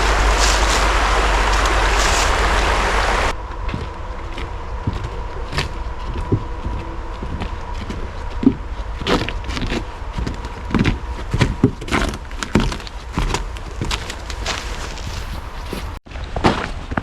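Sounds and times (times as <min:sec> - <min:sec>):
footsteps crunching on trail: 0:00.0 - 0:16.0
low rumble of wind: 0:00.0 - 0:17.0.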